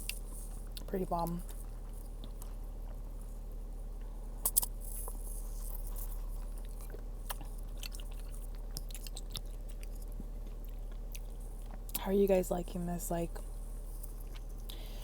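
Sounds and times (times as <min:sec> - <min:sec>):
person chewing crunchy food: 0:00.0 - 0:12.0, 0:13.6 - 0:15.0.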